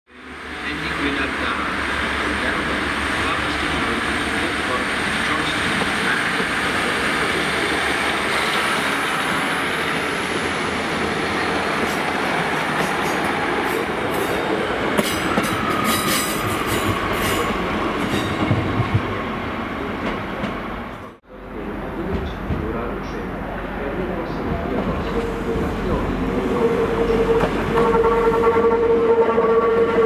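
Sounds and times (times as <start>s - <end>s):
train engine and wheels rumbling: 0.1s - 30.0s.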